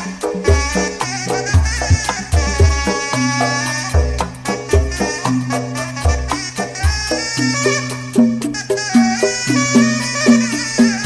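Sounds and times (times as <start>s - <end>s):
deep drum strokes: 0.0s - 11.0s
held melody line: 0.0s - 11.0s.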